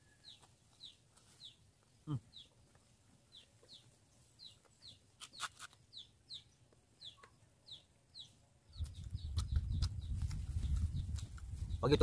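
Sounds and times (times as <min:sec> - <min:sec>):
faint high bird chirps: 0:00.0 - 0:02.6, 0:03.3 - 0:12.0.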